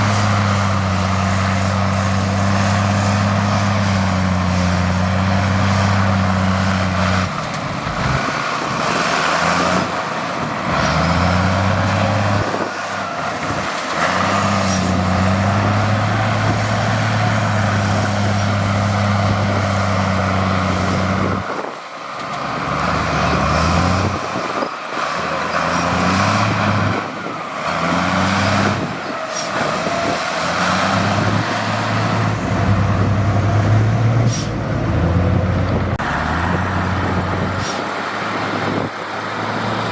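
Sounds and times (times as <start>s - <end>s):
heavy diesel engine revving: 0.0s - 39.9s.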